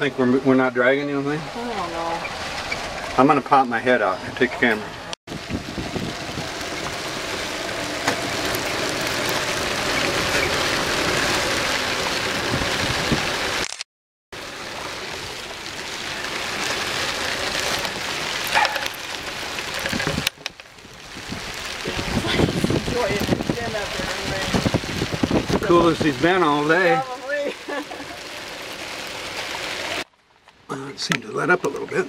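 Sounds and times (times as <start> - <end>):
storm wind: 0.0 - 13.6, 14.4 - 30.0
heavy rain: 0.0 - 13.7, 14.3 - 32.0.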